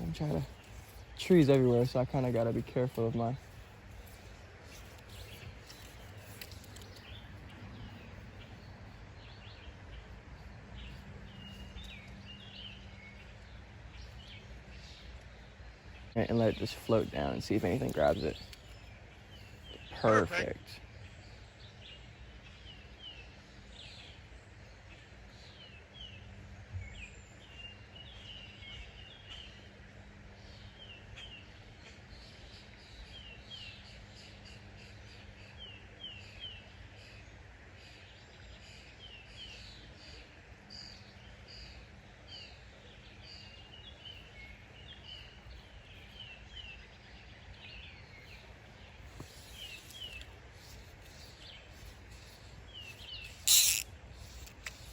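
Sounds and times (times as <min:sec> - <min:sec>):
small birds chirping: 0:00.0 - 0:29.7, 0:30.4 - 0:54.9
low outdoor background noise: 0:00.0 - 0:54.9.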